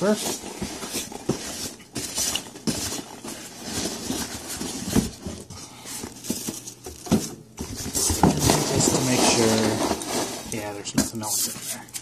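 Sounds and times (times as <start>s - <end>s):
rustling packing peanuts and paper: 0.0s - 11.9s.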